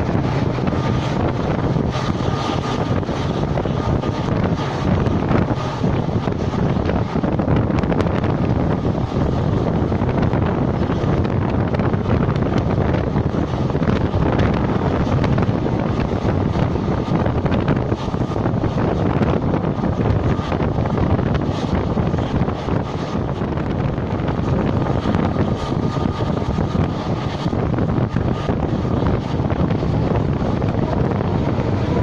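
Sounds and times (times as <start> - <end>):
train rumbling: 0.0 - 32.0
wind buffeting microphone: 0.0 - 32.0.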